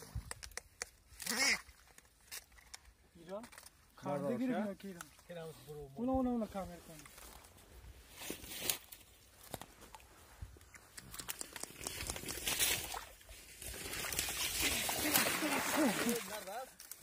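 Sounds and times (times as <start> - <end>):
dry reeds rustling and snapping: 0.0 - 4.0, 7.0 - 17.0.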